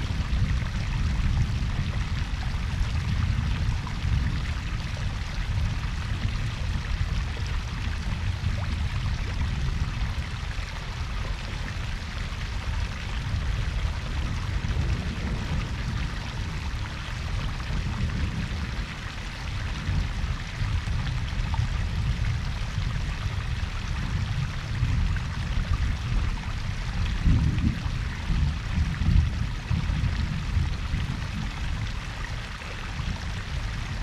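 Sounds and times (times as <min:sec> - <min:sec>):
waterfall and babbling brook: 0:00.0 - 0:34.0.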